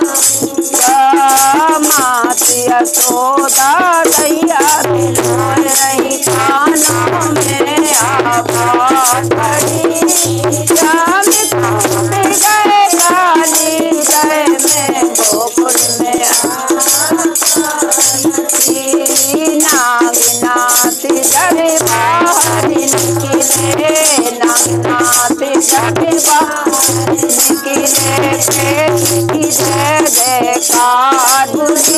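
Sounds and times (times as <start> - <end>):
rhythmic hand-clapping: 0.0 - 31.9
women singing in chorus: 0.0 - 31.9.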